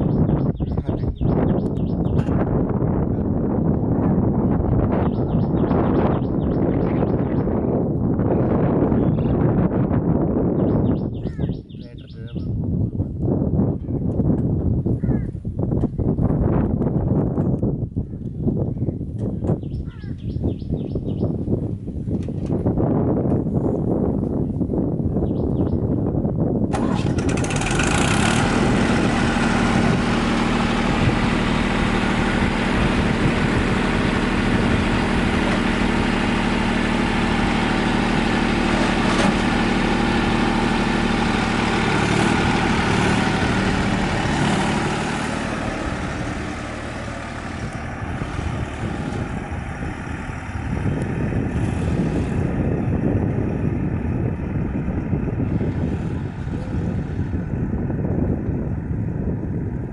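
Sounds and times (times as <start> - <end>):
diesel tractor engine running: 0.0 - 12.3, 13.2 - 59.9.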